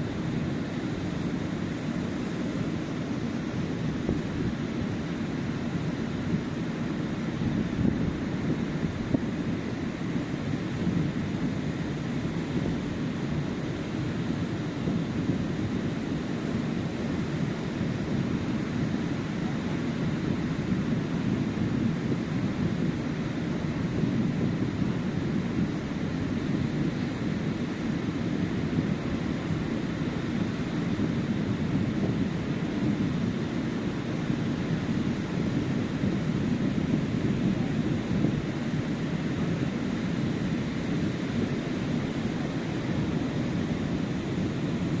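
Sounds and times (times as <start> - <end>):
ocean surf washing onto beach: 0.0 - 45.0
wind rumbling on microphone: 0.0 - 45.0.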